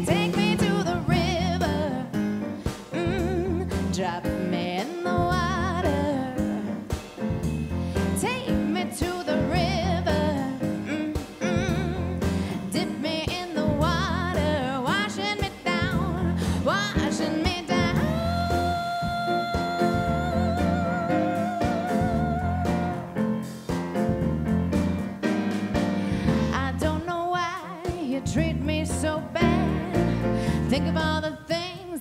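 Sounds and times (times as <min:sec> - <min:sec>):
woman singing with vibrato: 0:00.0 - 0:02.2, 0:02.9 - 0:06.8, 0:08.2 - 0:23.1, 0:26.5 - 0:32.0
bass line: 0:00.0 - 0:27.2, 0:28.2 - 0:31.4
drum kit: 0:00.0 - 0:31.8.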